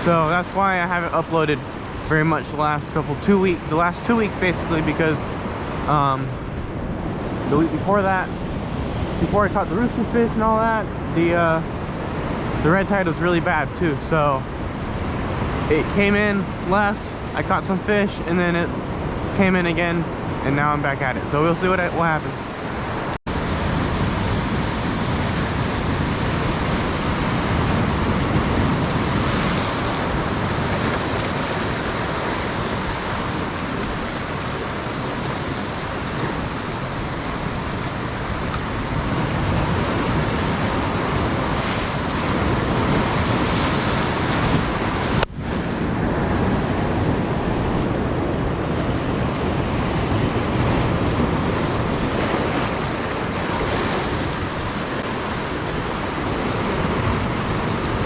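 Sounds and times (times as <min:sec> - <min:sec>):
wind buffeting microphone: 0:00.0 - 0:13.7, 0:22.5 - 0:58.0
ocean waves breaking: 0:00.0 - 0:58.0.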